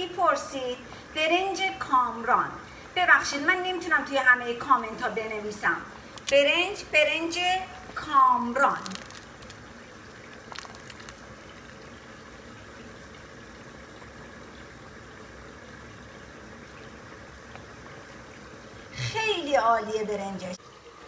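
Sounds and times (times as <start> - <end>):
pot of rice boiling: 0.0 - 21.0.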